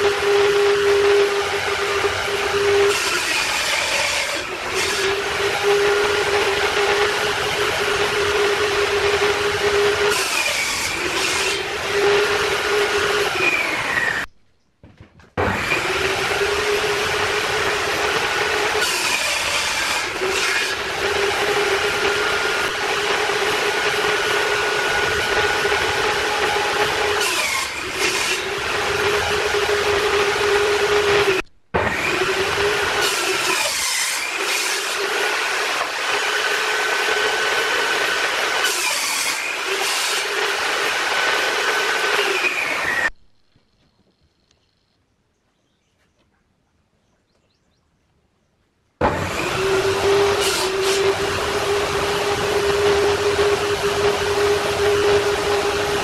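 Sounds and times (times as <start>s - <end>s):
saw blade cutting wood: 0.0s - 14.3s, 15.4s - 43.1s, 49.0s - 56.0s
table saw whine: 0.0s - 14.3s, 15.4s - 43.5s, 49.0s - 56.0s.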